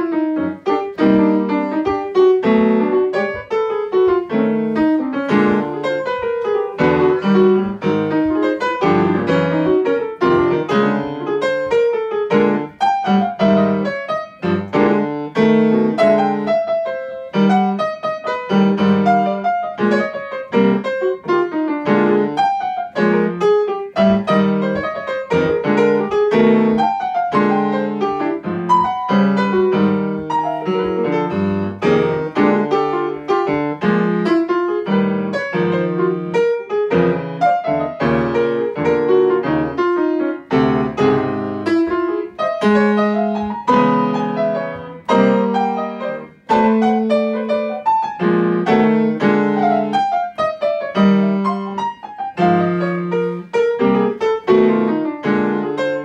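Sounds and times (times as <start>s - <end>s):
solo jazz piano: 0.0s - 56.0s.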